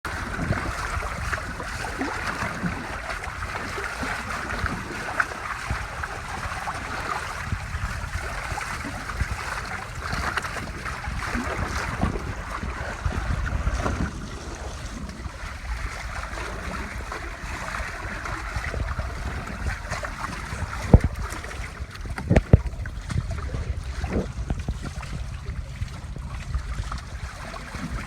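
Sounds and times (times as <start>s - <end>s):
water rushing past hulls: 0.1s - 28.0s
wind buffeting microphone: 0.1s - 28.0s.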